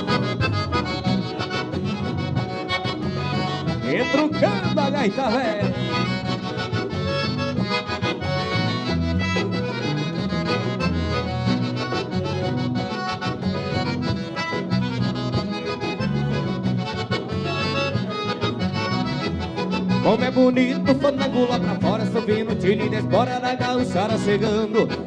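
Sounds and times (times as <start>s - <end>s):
accordion melody: 0.0s - 25.0s
bass and rhythm accompaniment: 0.0s - 25.0s.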